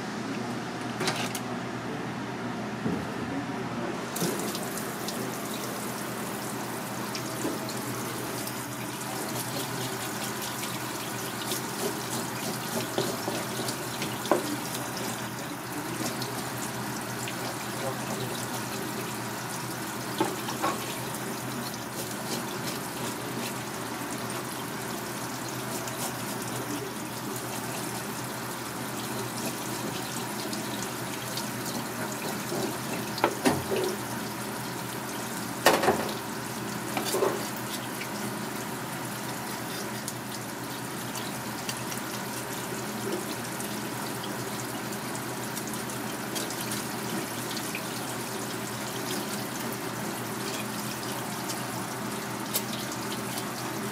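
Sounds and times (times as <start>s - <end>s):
tap water running: 4.1s - 53.9s.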